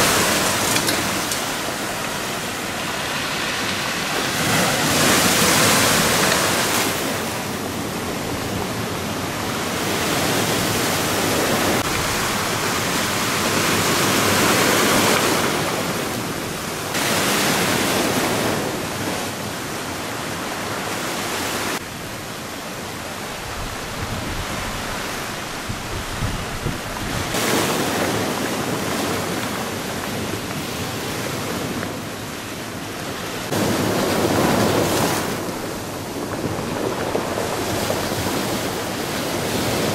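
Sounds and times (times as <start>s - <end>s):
storm waves crashing: 0.0s - 39.9s
wind blowing across microphone: 0.0s - 39.9s.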